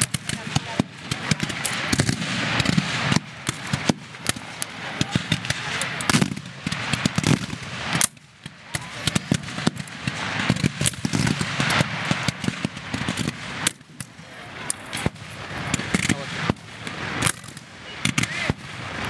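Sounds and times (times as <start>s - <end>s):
rifle shots: 0.0s - 19.0s.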